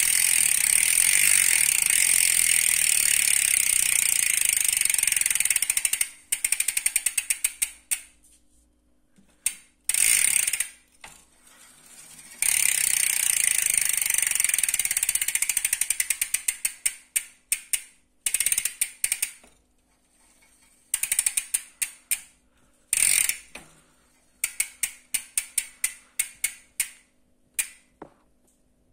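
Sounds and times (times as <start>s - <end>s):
bicycle hub freewheel clicking: 0.0s - 8.2s, 9.4s - 27.9s.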